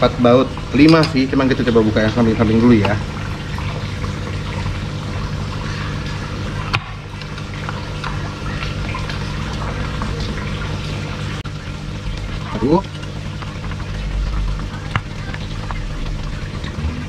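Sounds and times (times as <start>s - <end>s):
low steady hum: 0.0s - 17.0s
water running and splashing: 0.0s - 17.0s.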